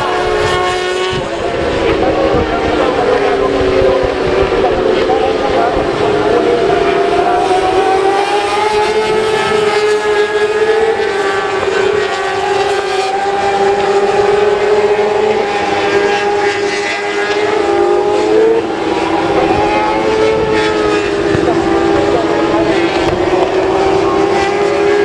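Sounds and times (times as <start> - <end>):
racing motorcycles revving: 0.0 - 25.0.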